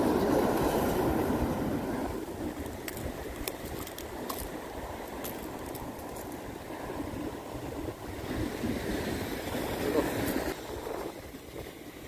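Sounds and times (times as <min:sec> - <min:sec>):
surf on a rocky seawall: 0:00.0 - 0:12.0
wind on microphone: 0:00.0 - 0:12.0.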